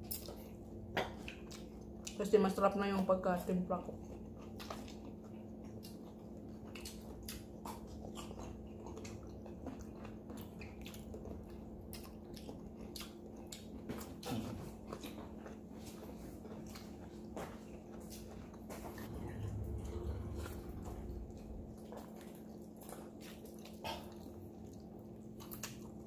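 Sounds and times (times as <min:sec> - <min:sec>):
faint steady hum: 0:00.0 - 0:26.0
person chewing and biting: 0:04.0 - 0:26.0.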